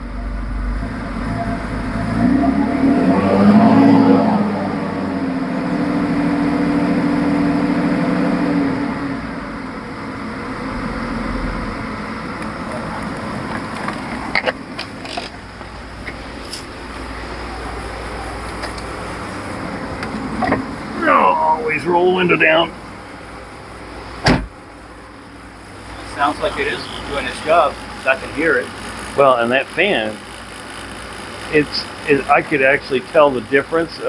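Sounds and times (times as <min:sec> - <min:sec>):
car engine running: 0:00.0 - 0:34.0
steady humming tone: 0:00.0 - 0:34.0.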